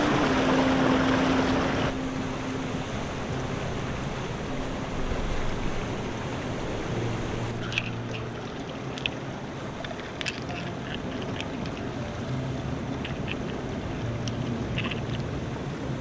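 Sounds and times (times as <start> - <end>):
sea surf on rocks: 0.0 - 16.0.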